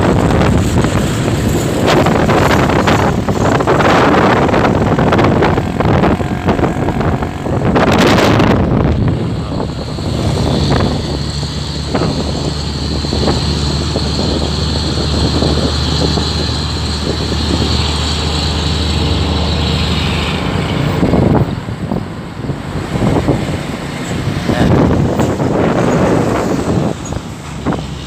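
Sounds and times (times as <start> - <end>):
high engine whine: 0.0 - 28.0
truck engines and road traffic: 0.0 - 28.0
vehicle passing: 0.0 - 28.0.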